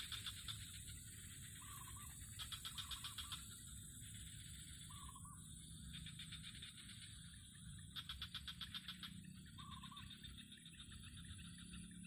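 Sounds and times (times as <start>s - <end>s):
faint bird calls: 0.0s - 12.0s
steady high-pitched hum: 0.0s - 12.0s.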